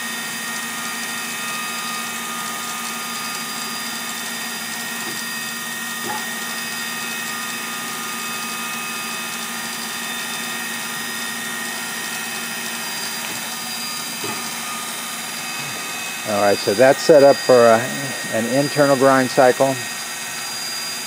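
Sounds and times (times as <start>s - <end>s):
grinder motor whine and hum: 0.0s - 21.0s.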